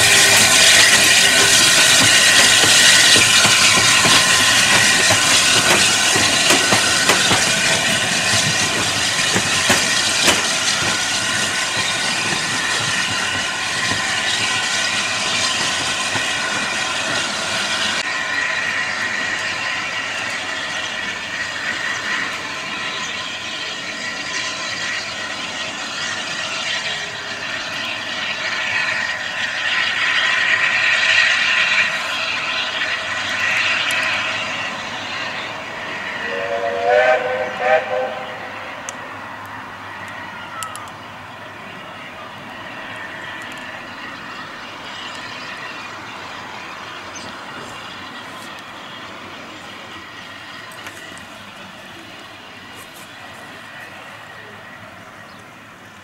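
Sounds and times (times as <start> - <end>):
steam hiss: 0.0 - 56.0
train wheels clicking on rail joints: 0.0 - 56.0.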